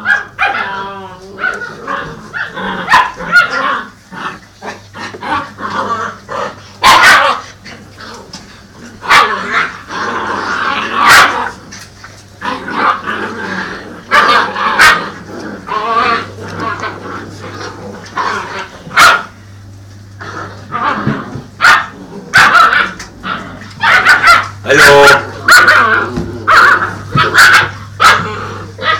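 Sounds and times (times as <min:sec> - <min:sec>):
puppies barking and yipping: 0:00.0 - 0:19.4, 0:20.5 - 0:28.9.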